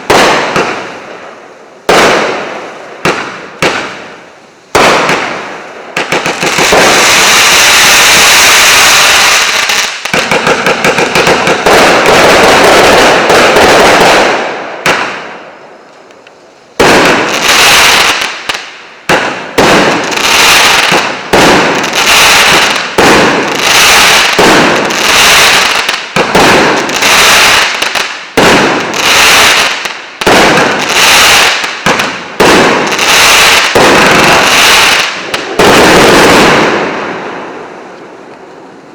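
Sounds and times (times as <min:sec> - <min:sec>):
firework cake rapid volley: 0:00.0 - 0:15.7, 0:16.7 - 0:38.9
firework bursts: 0:00.0 - 0:38.9.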